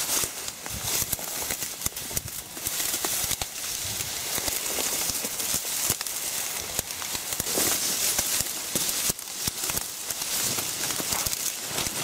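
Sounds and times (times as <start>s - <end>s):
leaves rustling: 0.0s - 12.0s
stems crackling: 0.0s - 12.0s.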